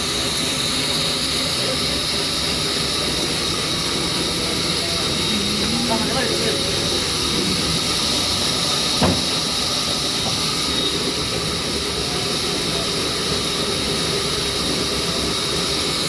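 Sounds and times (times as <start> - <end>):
sawmill machinery hiss and whine: 0.0 - 16.0.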